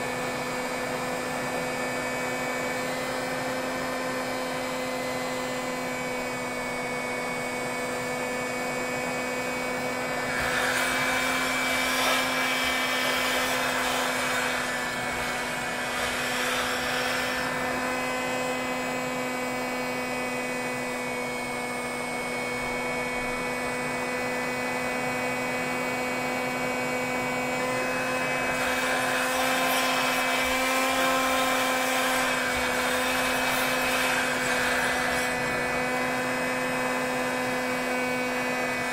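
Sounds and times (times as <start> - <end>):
heat gun fan humming: 0.0 - 38.9.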